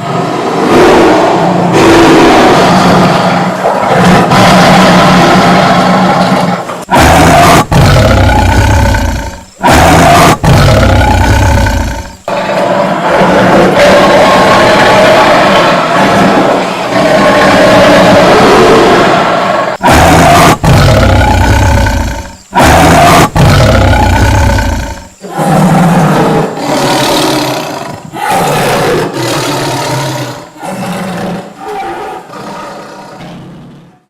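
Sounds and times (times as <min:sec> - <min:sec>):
tiger roaring: 0:00.0 - 0:34.0.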